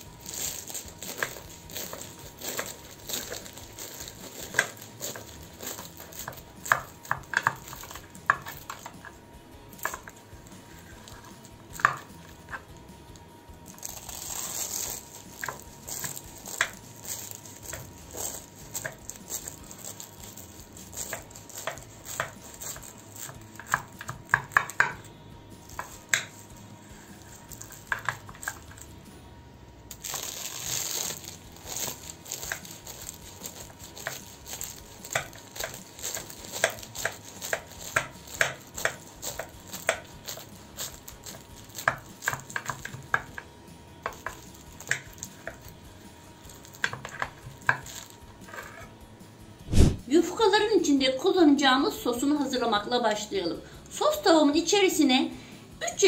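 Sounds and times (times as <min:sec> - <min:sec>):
flaky pastry crunching: 0:00.0 - 0:29.0, 0:29.9 - 0:49.0.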